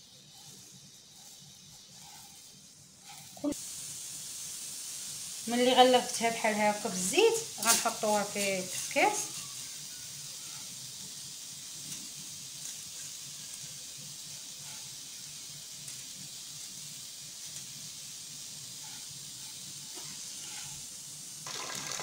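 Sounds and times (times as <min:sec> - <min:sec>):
dry noodles rustling in a pot: 0:00.0 - 0:21.6
steady hiss: 0:00.0 - 0:22.0.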